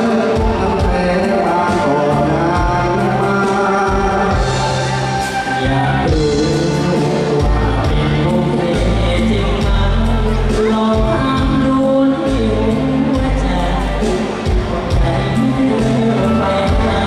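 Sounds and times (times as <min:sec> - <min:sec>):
amplified band with sustained bass: 0:00.0 - 0:17.0
men singing into microphones: 0:00.0 - 0:17.0.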